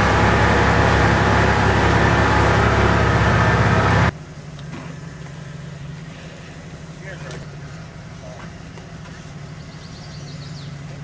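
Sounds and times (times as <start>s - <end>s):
low engine hum: 0.0s - 11.0s
vehicle engine and drivetrain drone: 0.0s - 11.0s.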